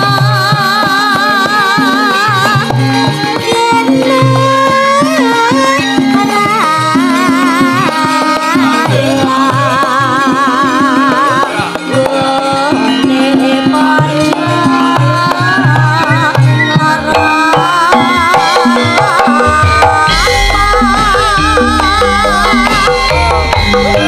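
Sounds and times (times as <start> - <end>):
gamelan accompaniment: 0.0 - 24.0
hand drum strokes: 0.0 - 24.0
woman singing with vibrato: 0.0 - 24.0.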